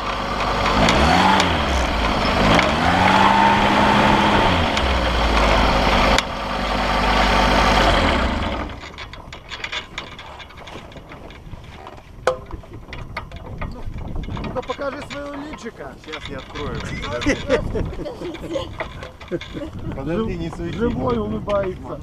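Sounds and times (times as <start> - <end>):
hang glider engine running: 0.0 - 22.0.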